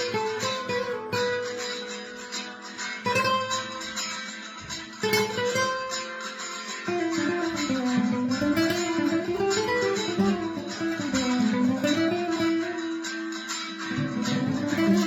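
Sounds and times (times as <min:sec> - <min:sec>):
solo guitar plucking: 0:00.0 - 0:15.0.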